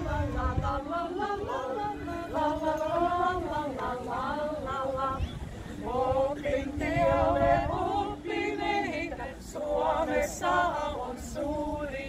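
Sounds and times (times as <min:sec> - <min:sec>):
women singing a cappella: 0:00.0 - 0:12.0.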